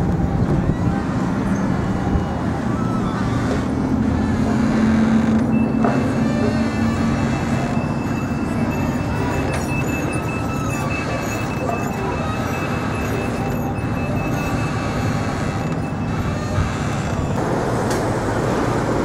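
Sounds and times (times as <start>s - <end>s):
high-pitched whine: 0.0s - 19.0s
passing traffic: 0.0s - 19.0s.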